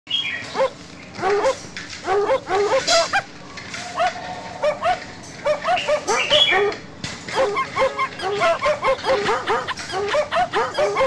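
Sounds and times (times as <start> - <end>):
dog whining yelps: 0.5 - 11.0.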